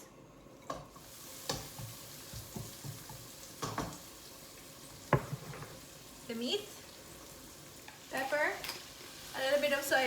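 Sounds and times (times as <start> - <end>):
garlic and onions sizzling in oil: 0.9 - 10.0.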